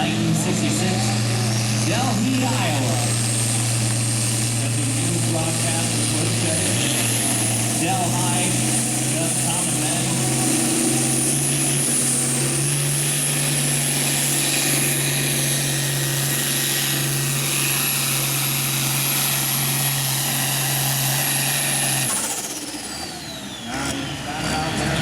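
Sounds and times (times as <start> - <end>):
tractor diesel engine with whine: 0.0 - 25.0.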